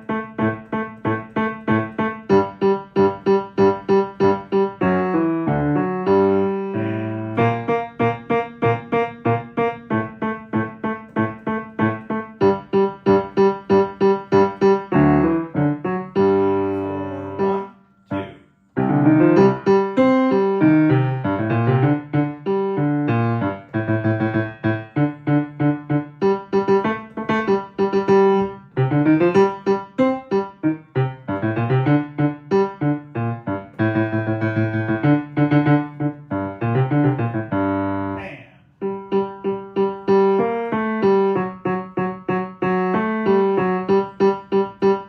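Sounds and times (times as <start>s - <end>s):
piano playing repeated chords: 0.0s - 45.0s.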